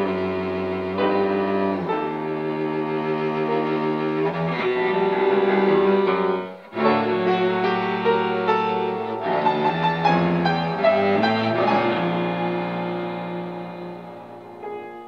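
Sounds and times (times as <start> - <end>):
cello bowed notes: 0.0 - 15.0.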